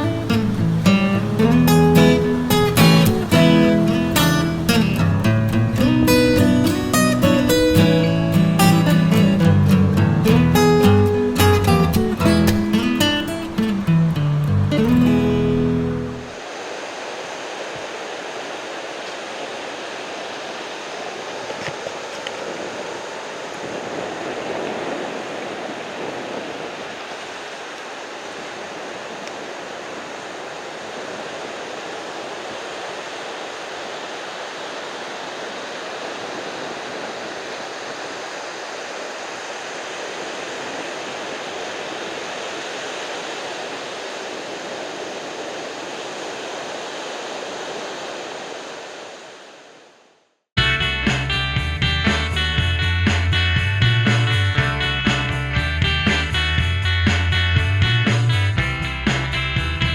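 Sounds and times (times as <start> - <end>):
waves breaking: 0.0 - 59.9.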